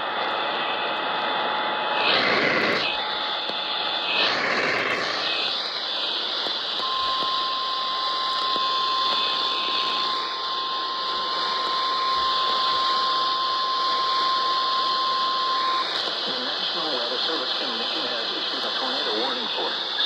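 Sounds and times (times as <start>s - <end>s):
radio static hiss: 0.0s - 20.0s
steady alarm tone: 0.0s - 20.0s.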